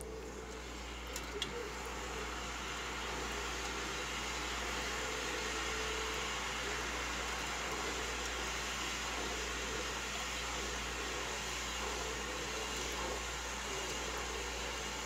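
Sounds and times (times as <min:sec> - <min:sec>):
sugar water hissing in pot: 0:00.0 - 0:15.0.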